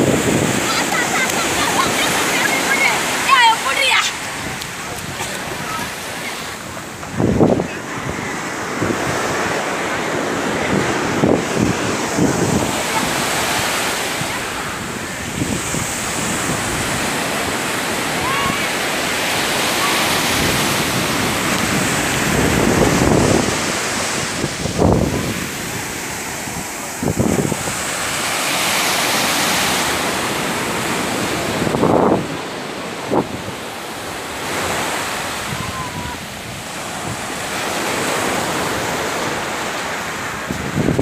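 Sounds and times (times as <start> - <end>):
waves breaking on a beach: 0.0 - 41.0
wind buffeting microphone: 0.0 - 41.0.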